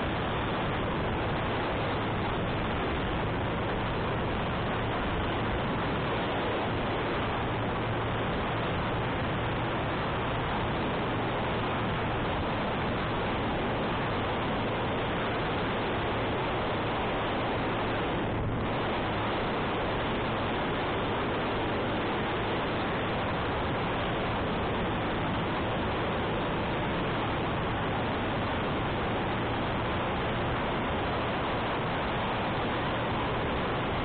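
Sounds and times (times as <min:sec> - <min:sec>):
motorcycle engine humming: 0:00.0 - 0:34.0
wind rushing over microphone: 0:00.0 - 0:34.0.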